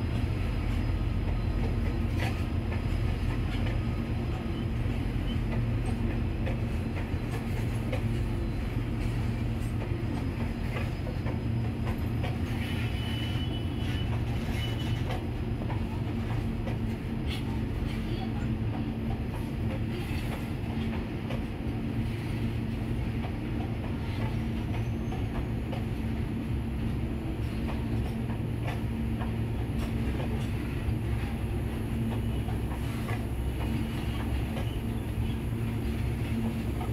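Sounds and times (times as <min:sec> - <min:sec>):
train wheels rumbling on rails: 0:00.0 - 0:36.9
faint clicks of wheels and couplings: 0:00.1 - 0:36.9.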